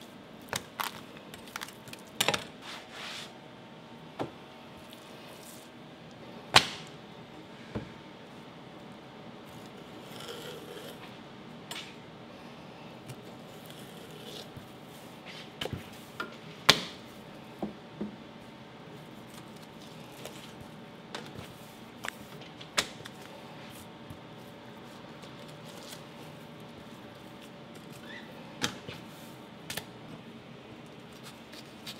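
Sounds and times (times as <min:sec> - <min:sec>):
background hum: 0:00.0 - 0:31.9.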